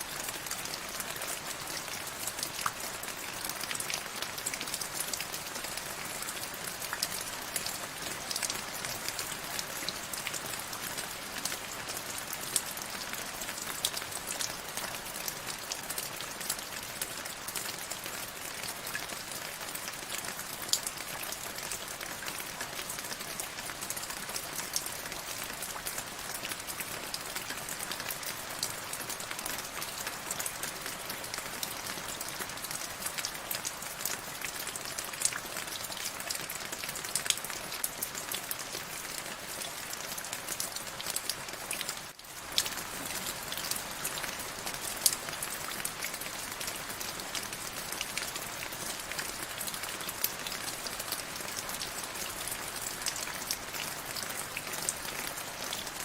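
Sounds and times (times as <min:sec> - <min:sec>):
raindrops pattering on a surface: 0:00.0 - 0:56.0.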